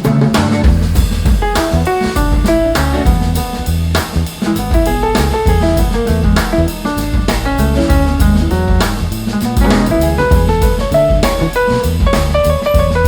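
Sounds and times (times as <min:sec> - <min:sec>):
bass line: 0:00.0 - 0:13.0
drum kit beat: 0:00.0 - 0:13.0.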